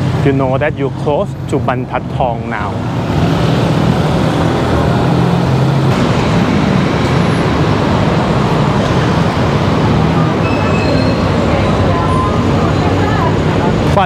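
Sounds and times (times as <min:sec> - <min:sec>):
passing car and motorcycle engines: 0:00.0 - 0:14.0.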